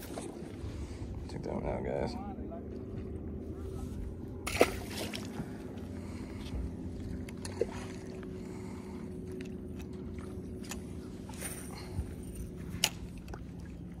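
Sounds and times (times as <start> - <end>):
steady low hum: 0.0 - 14.0
wind and water noise: 0.0 - 14.0.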